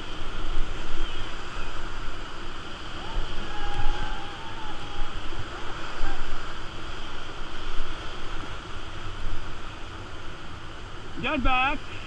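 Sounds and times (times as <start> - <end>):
whitewater rushing and splashing: 0.0 - 12.0.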